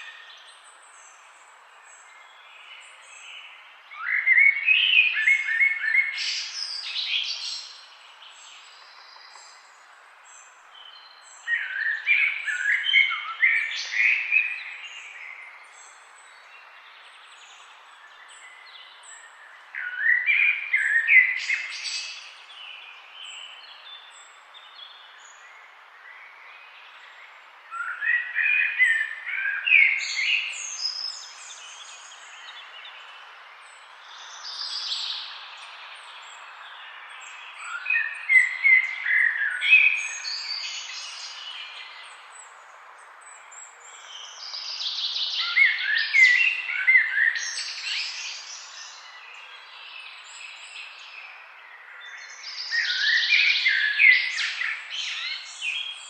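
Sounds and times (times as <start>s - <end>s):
songbirds chirping and warbling: 0.0s - 56.0s.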